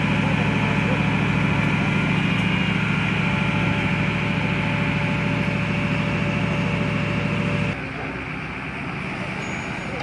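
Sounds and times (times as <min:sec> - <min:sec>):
diesel engine humming with whine: 0:00.0 - 0:10.0.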